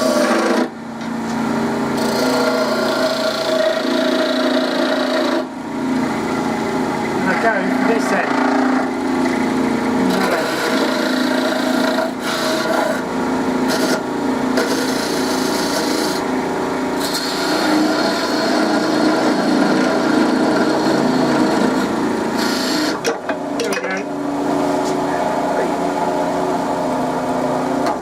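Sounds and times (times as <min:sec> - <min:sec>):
tool scraping spinning wood: 0:00.0 - 0:06.6, 0:07.2 - 0:24.0
wood lathe motor hum: 0:00.0 - 0:23.5.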